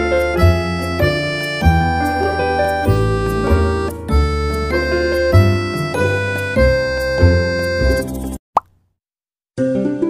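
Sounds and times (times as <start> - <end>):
instrumental background music: 0.0 - 8.4.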